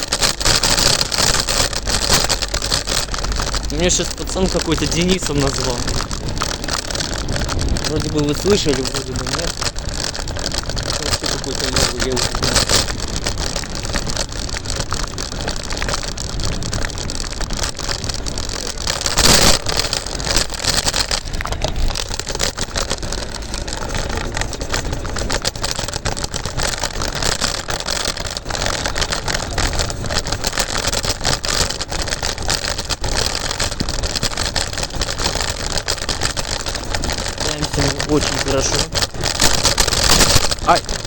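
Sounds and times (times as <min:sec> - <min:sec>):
scooter jolt: 0:00.0 - 0:41.0
scooter wheels rumbling and rattling: 0:00.0 - 0:41.0
wind buffeting microphone: 0:00.0 - 0:41.0.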